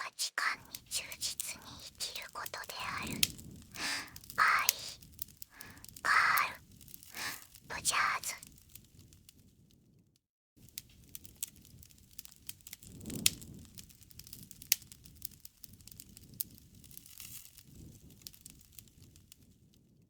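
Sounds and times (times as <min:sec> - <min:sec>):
campfire crackling and popping: 0:00.0 - 0:09.4, 0:10.6 - 0:19.8
low rumble of flames: 0:00.6 - 0:10.0, 0:10.6 - 0:20.0.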